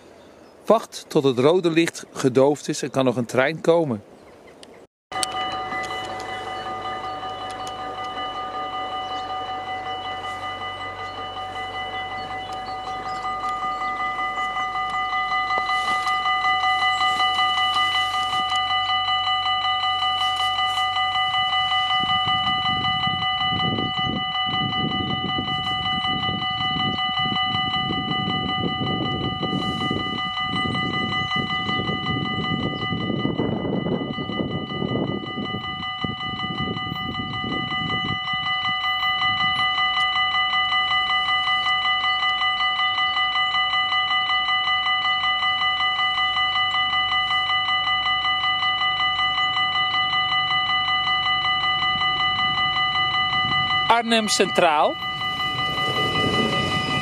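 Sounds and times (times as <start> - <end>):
level crossing bells ringing: 5.1 - 57.0.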